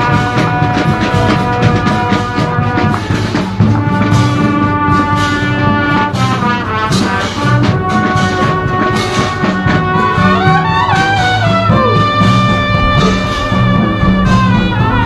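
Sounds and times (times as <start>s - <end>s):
bugles playing full chords: 0.0s - 15.0s
drums: 0.0s - 15.0s.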